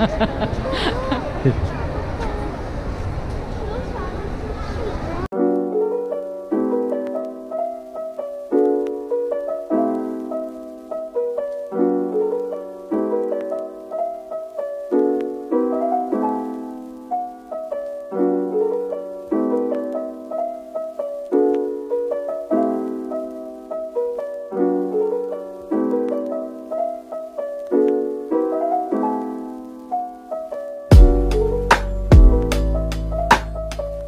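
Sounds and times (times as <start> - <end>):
gentle piano music: 5.2 - 34.0.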